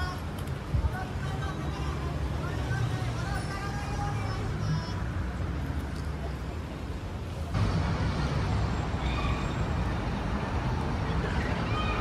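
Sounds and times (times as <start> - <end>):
faint voices of passers-by: 0.0 - 12.0
traffic rumble: 0.0 - 12.0.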